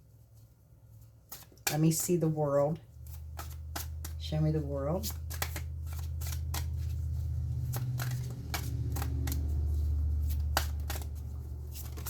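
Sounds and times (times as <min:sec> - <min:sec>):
cards being shuffled: 0:01.0 - 0:02.3, 0:02.9 - 0:12.0.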